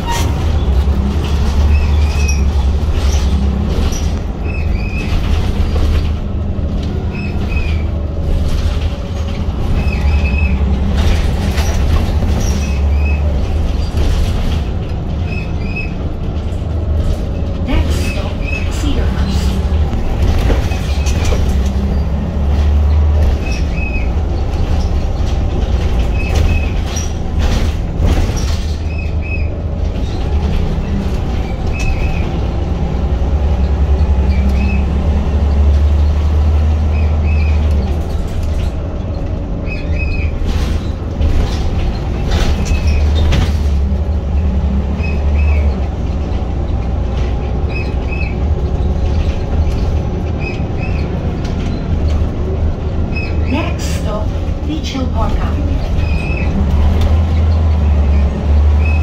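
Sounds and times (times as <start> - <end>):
bus diesel engine rumble: 0.0 - 59.0
road noise: 0.0 - 59.0.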